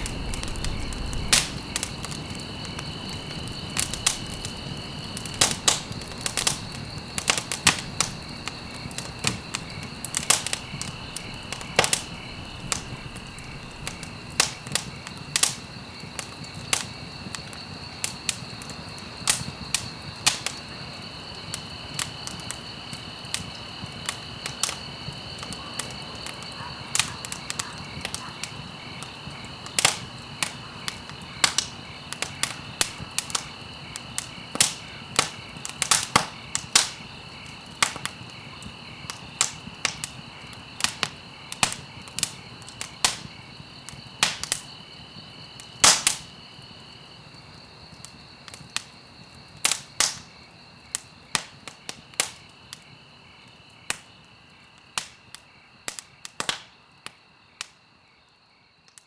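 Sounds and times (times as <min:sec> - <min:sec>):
wood fire crackling: 0:00.0 - 0:57.7.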